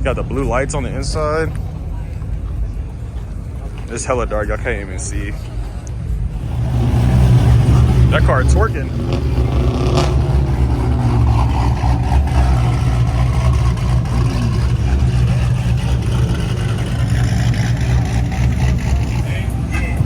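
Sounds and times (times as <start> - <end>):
car engine deep rumble: 0.0 - 20.0.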